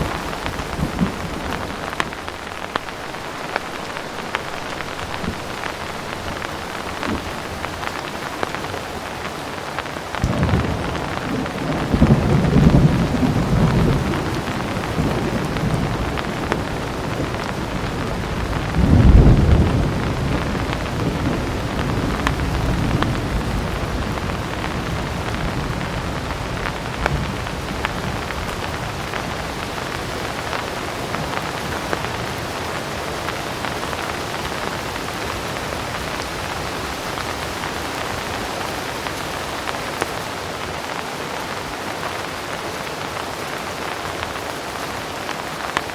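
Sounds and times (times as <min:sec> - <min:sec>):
thunder rolling: 0:00.0 - 0:09.4, 0:10.2 - 0:40.0
heavy rain falling: 0:00.0 - 0:45.9.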